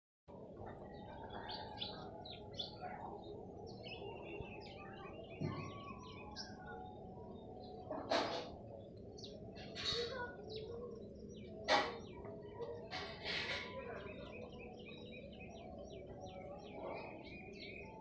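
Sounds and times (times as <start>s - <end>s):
small birds chirping: 0.4s - 18.0s.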